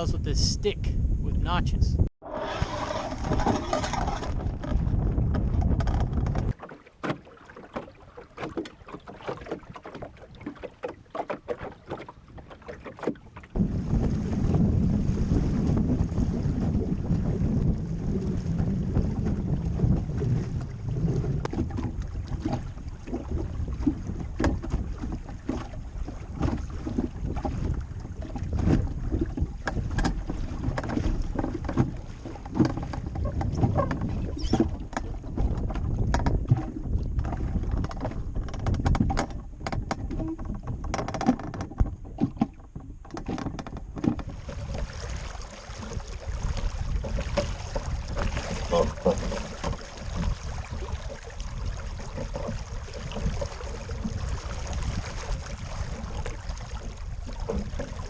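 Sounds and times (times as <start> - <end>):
wind buffeting the microphone: 0.0 - 58.0
water lapping against a hull: 2.2 - 58.0.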